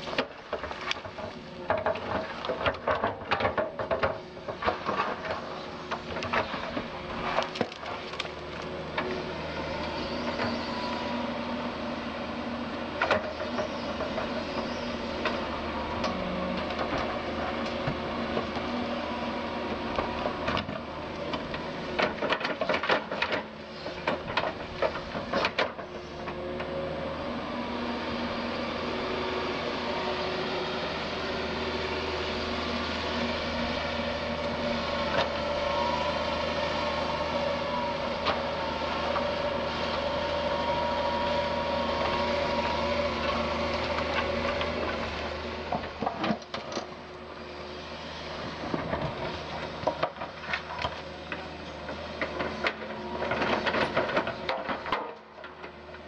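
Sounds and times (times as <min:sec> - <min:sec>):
diesel engine droning: 0:00.0 - 0:56.0
hydraulic whine: 0:05.0 - 0:21.9, 0:23.6 - 0:54.4.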